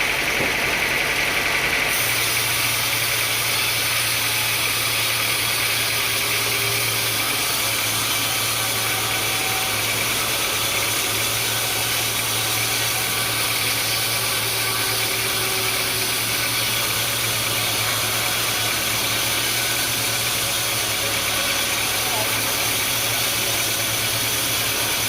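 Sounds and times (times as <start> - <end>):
machine running evenly: 0.0 - 25.0.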